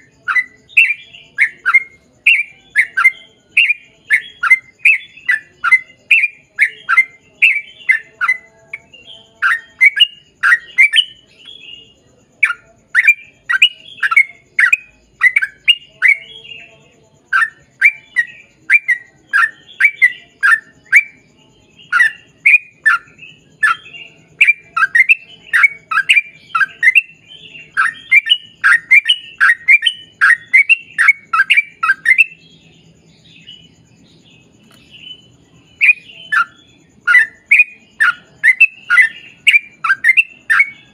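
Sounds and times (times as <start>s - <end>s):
bird singing downward chirps: 0.0s - 40.9s.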